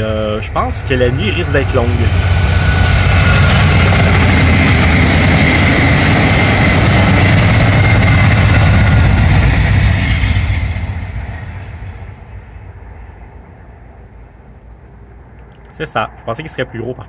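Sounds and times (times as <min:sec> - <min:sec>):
passing train rumble: 0:00.0 - 0:17.0.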